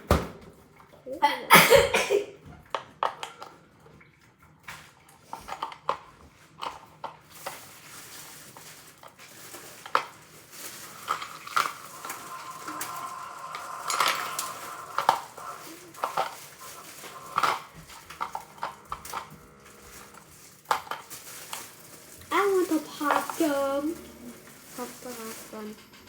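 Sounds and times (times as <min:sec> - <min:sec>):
ice clattering against a bowl: 0:04.8 - 0:25.8.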